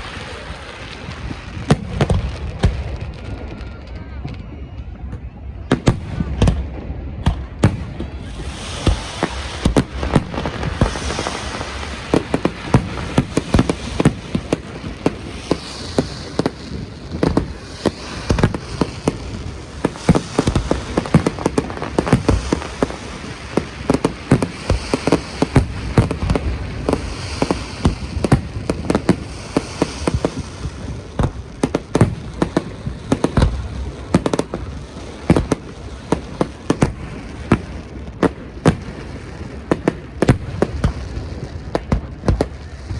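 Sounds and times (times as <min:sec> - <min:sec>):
fireworks bangs: 0:00.0 - 0:42.9
fireworks crackle: 0:00.0 - 0:42.9.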